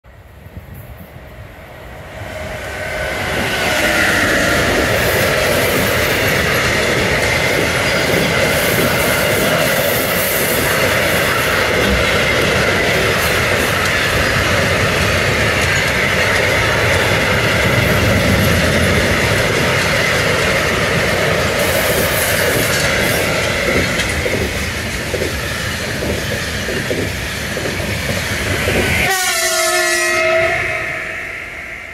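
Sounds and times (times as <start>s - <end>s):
train wheels rumbling on rail: 0.1s - 31.9s
locomotive whining tone: 2.1s - 31.9s.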